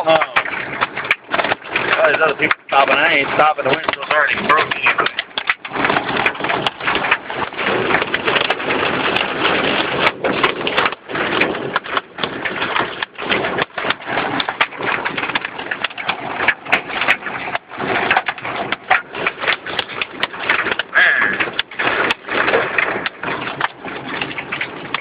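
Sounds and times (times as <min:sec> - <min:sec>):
hail and rain on car roof: 0:00.0 - 0:25.0.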